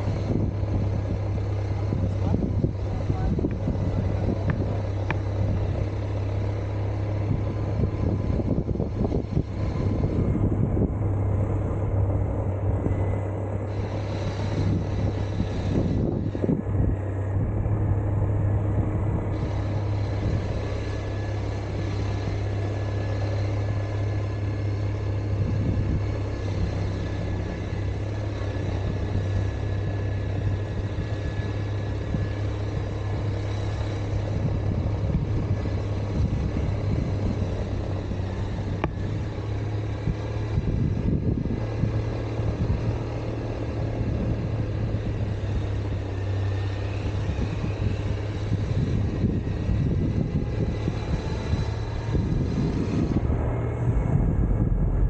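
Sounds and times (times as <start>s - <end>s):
road noise: 0.0s - 55.0s
scooter engine humming: 0.0s - 55.0s.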